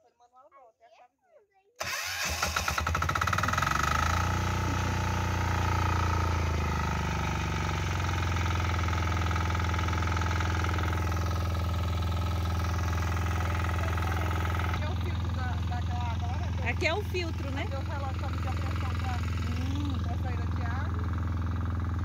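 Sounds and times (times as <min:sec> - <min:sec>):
water pump engine running: 0:01.8 - 0:22.0.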